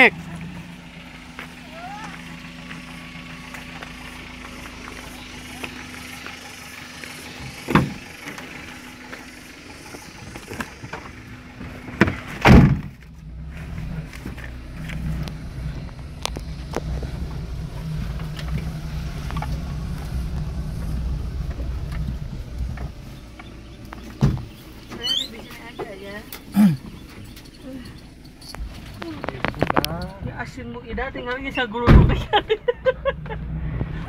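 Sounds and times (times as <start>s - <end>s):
van engine running: 0.0s - 34.0s.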